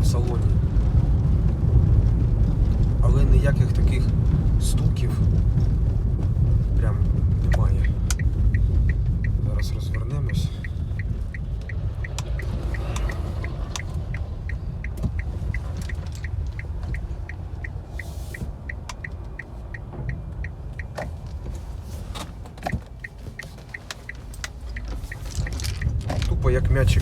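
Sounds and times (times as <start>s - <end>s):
turn signal ticking: 0.0s - 27.0s
tyre and road rumble: 0.0s - 27.0s.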